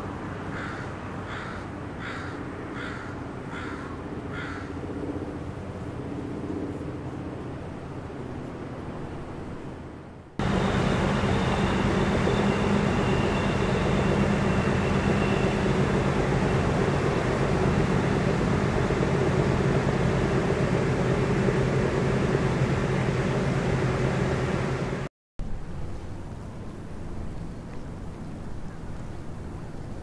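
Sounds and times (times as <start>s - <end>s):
steady engine drone: 0.0s - 30.0s.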